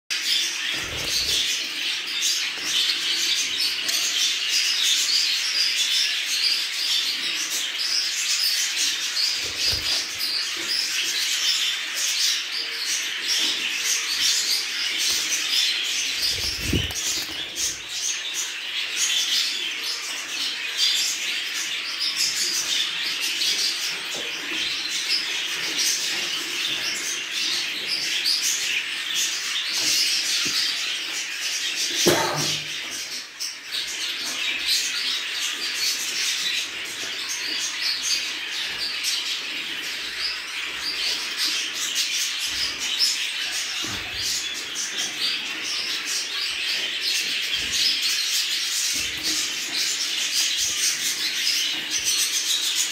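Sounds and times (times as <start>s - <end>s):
budgerigars chattering and chirping: 0.2s - 52.9s.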